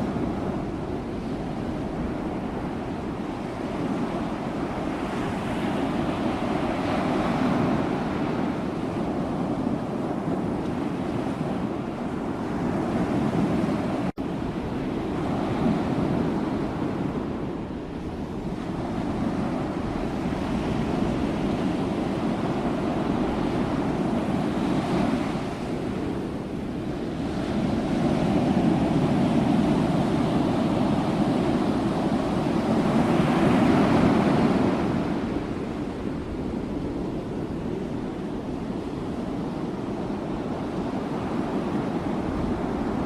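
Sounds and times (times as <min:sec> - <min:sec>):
sea waves surf: 0:00.0 - 0:43.0.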